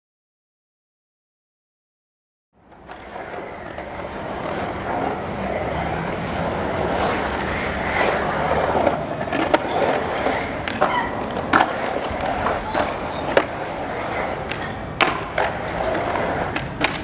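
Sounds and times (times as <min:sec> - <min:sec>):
skateboard clacks: 0:02.6 - 0:17.0
skateboard wheels rolling on concrete: 0:02.6 - 0:17.0
traffic noise: 0:02.6 - 0:17.0.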